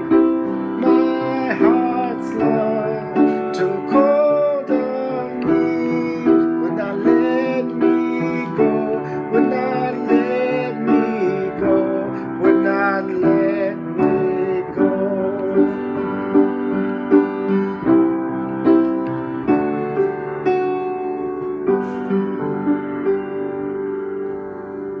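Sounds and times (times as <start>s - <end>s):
slow piano chords: 0.0s - 25.0s.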